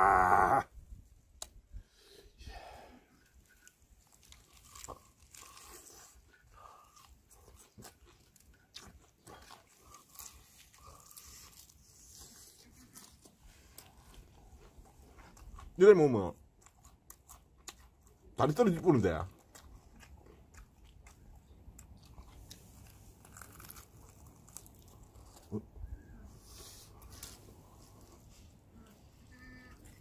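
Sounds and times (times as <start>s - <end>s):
crunching and chewing: 3.1s - 30.0s.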